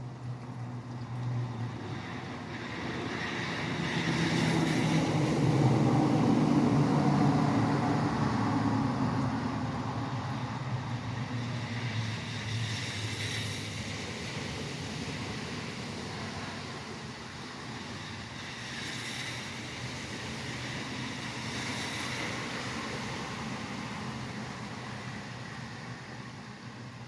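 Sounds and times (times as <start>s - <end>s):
rain: 0.0s - 27.0s
vehicle passing on wet road: 0.0s - 27.0s.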